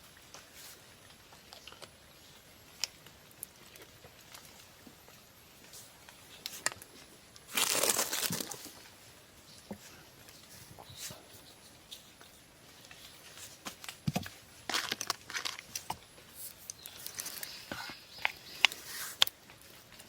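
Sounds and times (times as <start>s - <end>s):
crinkling and rustling handling: 0.0s - 20.0s.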